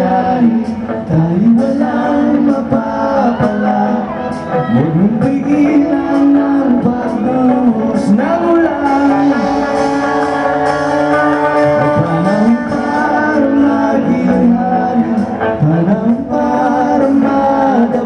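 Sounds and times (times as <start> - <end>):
man singing long sliding notes: 0.0 - 18.0
pop-rock band playing: 0.0 - 18.0.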